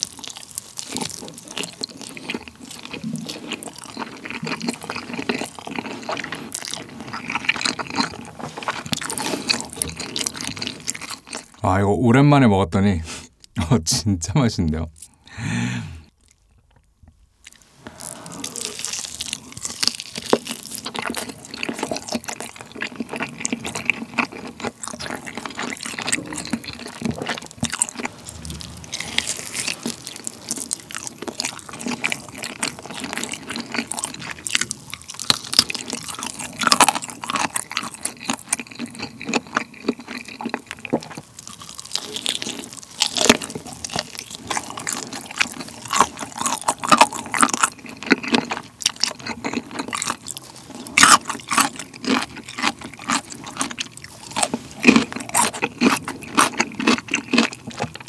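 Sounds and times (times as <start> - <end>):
biting and chewing with mouth clicks: 0.0 - 11.6, 16.1 - 58.0.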